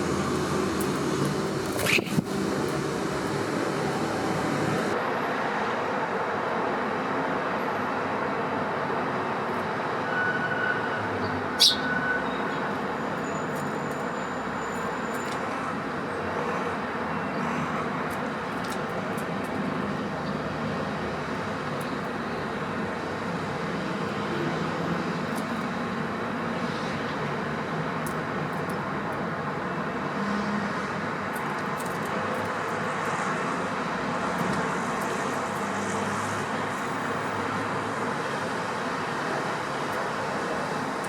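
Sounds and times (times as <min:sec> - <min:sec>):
distant road traffic: 0:00.0 - 0:41.0.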